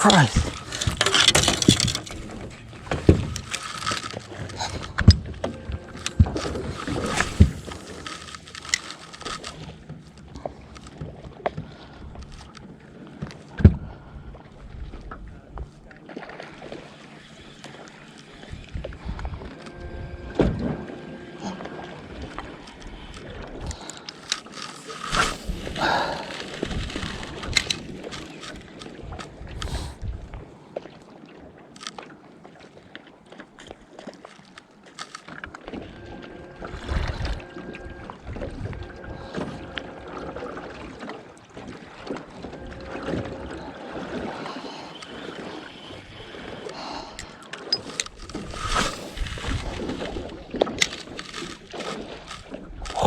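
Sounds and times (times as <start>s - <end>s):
knocks and clicks on boat: 0.0s - 31.0s, 31.6s - 53.0s
wind: 0.0s - 53.0s.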